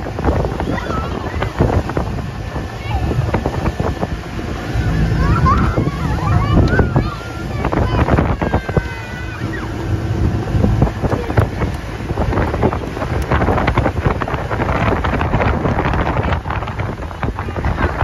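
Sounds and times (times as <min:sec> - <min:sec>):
water splashing against hull: 0:00.0 - 0:18.0
wind buffeting microphone: 0:00.0 - 0:18.0.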